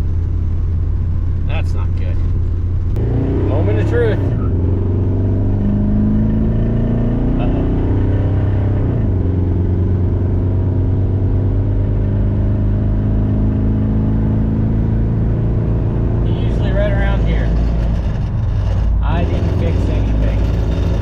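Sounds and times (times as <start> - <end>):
truck engine and road hum: 0.0 - 21.0.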